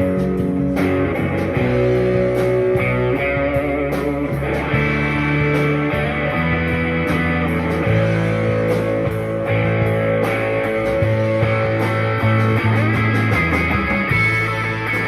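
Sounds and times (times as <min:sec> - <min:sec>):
electric guitar sustained notes: 0:00.0 - 0:15.0
low bass line: 0:00.0 - 0:15.0.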